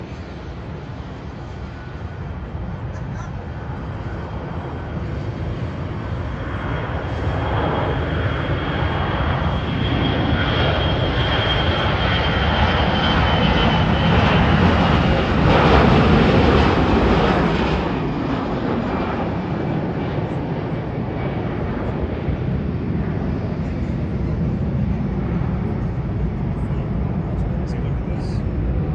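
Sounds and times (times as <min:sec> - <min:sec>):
jet engines at takeoff thrust: 0:00.0 - 0:28.9.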